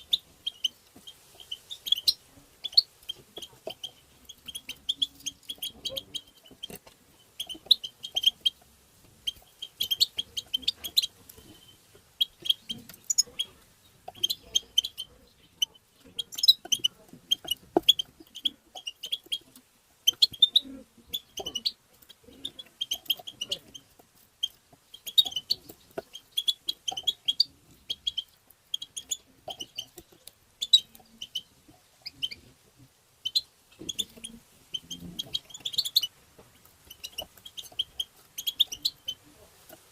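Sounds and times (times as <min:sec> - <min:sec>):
bird twittering chirps: 0:00.0 - 0:00.8, 0:01.4 - 0:08.6, 0:09.2 - 0:32.5, 0:33.2 - 0:36.2, 0:36.8 - 0:39.3.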